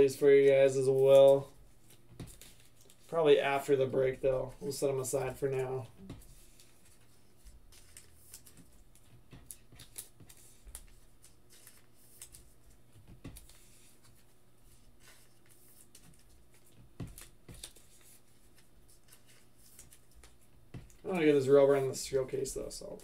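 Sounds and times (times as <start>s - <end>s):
cards rustling and clicking: 0.1s - 23.0s.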